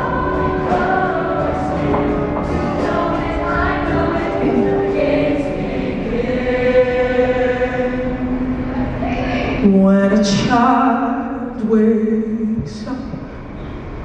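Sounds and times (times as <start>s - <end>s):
mixed choir singing held chords: 0.0s - 11.6s.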